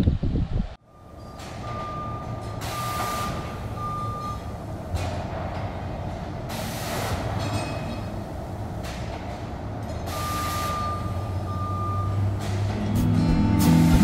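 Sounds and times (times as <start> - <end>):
engine rumble: 0.0 - 14.0.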